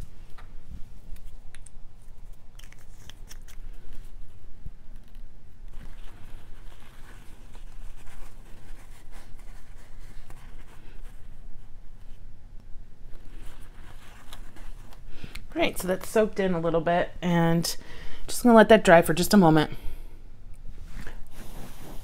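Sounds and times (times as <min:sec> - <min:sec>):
soft rustling: 0:00.0 - 0:16.8, 0:20.6 - 0:22.0.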